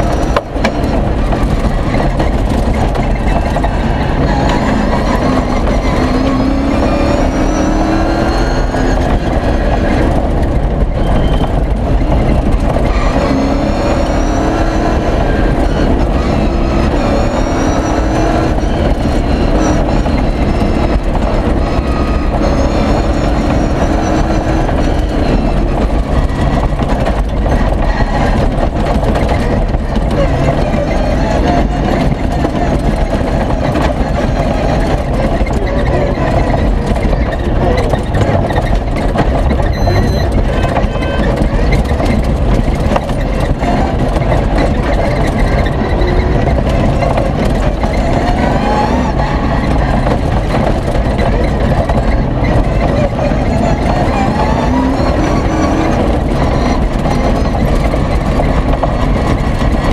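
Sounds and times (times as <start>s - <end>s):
bodywork rattling: 0.0s - 59.9s
engine revving at speed: 0.0s - 59.9s
tyres rumbling on gravel: 0.0s - 59.9s.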